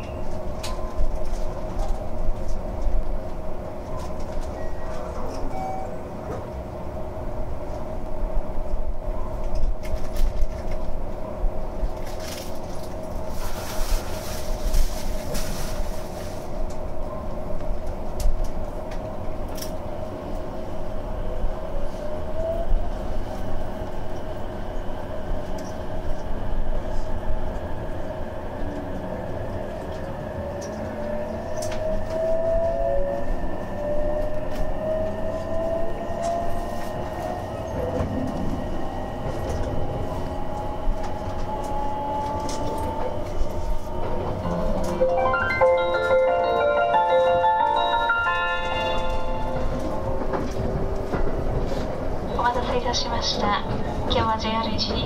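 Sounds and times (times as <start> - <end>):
train running hum: 0.0 - 55.0.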